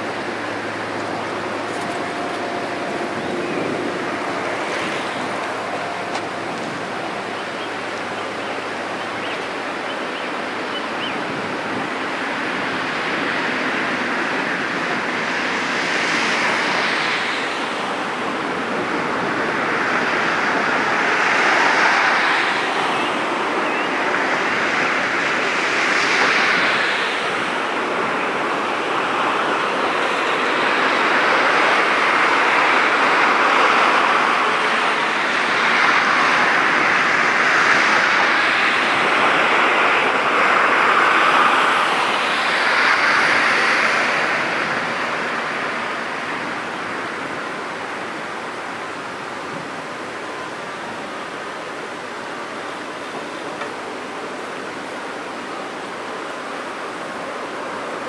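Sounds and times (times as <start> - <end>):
wind gusts on microphone: 0.0 - 58.0.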